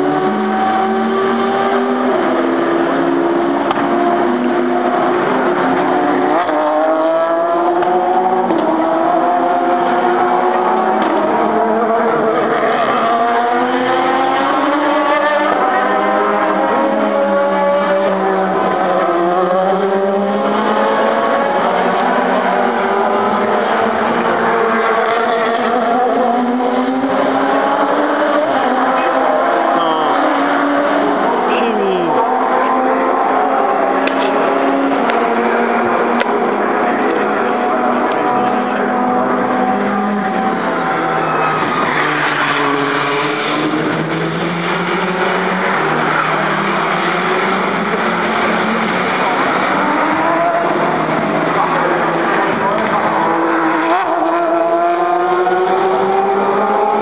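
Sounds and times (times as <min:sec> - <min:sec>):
race car engines passing: 0:00.0 - 0:57.0.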